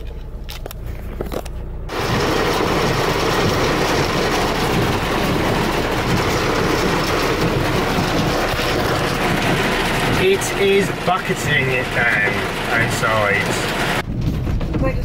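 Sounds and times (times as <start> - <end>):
engine and road rumble: 0.0 - 15.0
heavy rain on a car: 1.9 - 14.1.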